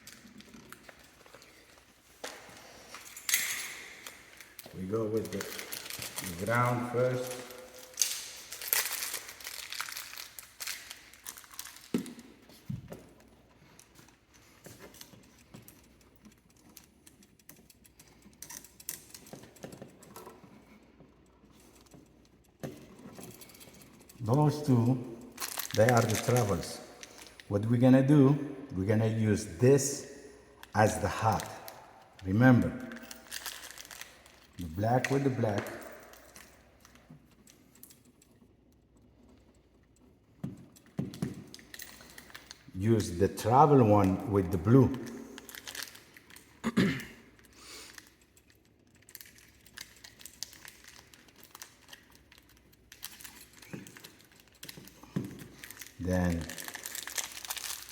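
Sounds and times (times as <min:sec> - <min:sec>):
wires clicking and rustling: 0:00.0 - 0:57.9.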